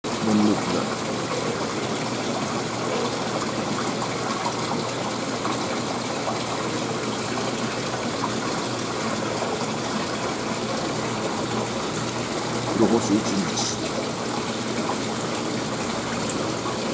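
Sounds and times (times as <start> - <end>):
water bubbling in fish tank: 0.1 - 16.9.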